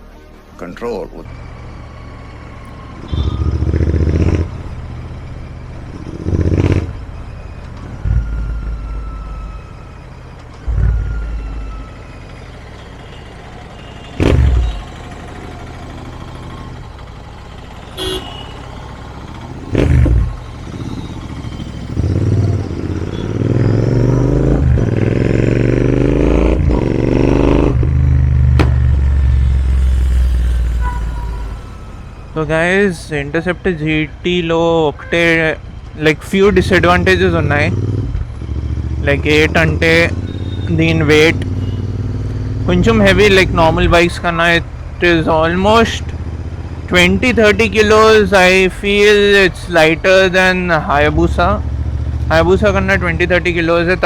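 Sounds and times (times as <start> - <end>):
motorcycle engine revving: 1.3 - 32.5, 36.3 - 54.0.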